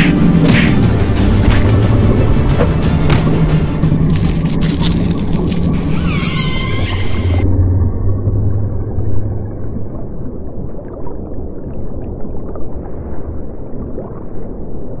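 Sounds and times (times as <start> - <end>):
deep hum: 0.0 - 13.6
muffled underwater rumble: 1.0 - 15.0.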